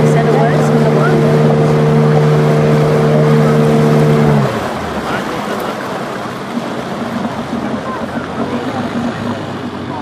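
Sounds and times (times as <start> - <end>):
motorboat engine humming: 0.0 - 10.0
water wash: 0.0 - 10.0.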